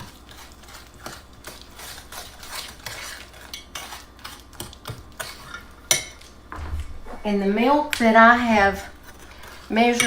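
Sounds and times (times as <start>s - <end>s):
utensil scraping a saucepan: 0.0s - 6.2s, 8.1s - 10.0s.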